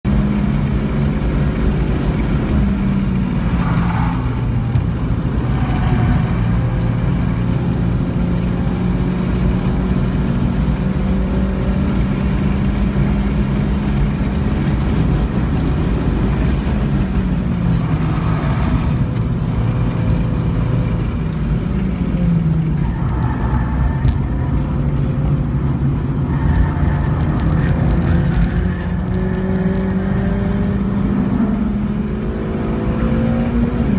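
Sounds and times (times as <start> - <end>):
car engine accelerating: 0.0 - 33.9
road and wind noise: 0.0 - 33.9.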